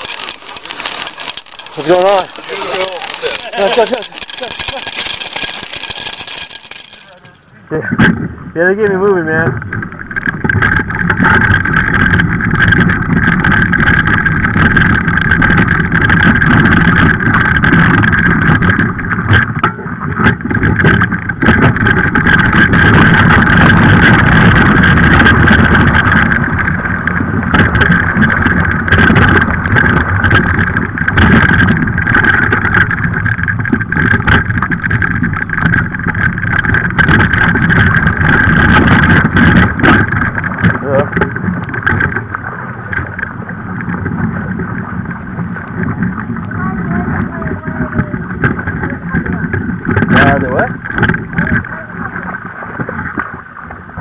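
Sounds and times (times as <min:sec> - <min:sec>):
scooter wheels rumbling on gravel: 0:00.0 - 0:54.0
wind buffeting microphone: 0:07.5 - 0:54.0.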